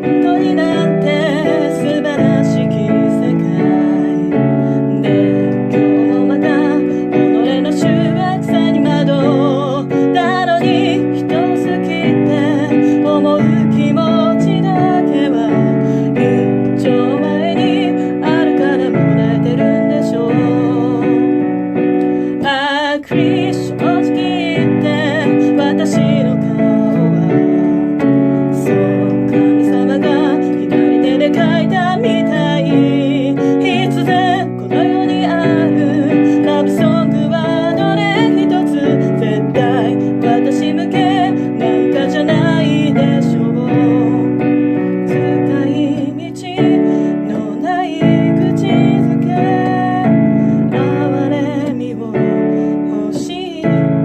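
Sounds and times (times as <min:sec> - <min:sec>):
electronic keyboard chords: 0:00.0 - 0:54.0
person singing with vibrato: 0:00.0 - 0:54.0.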